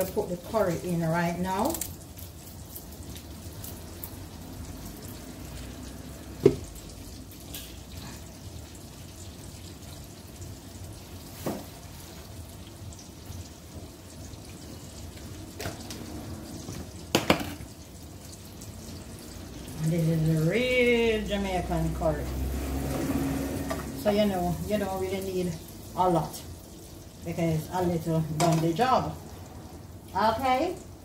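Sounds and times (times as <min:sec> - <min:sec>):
butter sizzling in a frying pan: 0:00.0 - 0:31.0.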